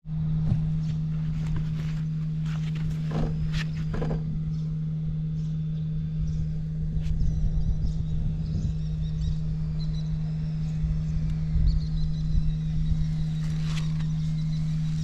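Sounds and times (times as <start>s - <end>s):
motorcycle engine idling: 0.1s - 15.0s.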